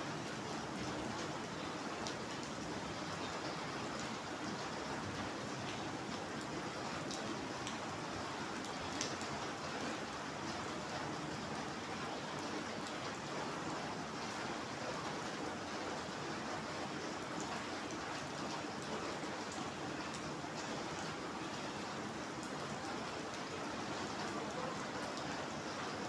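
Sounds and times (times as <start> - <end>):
rain on paving stones: 0.0 - 26.0.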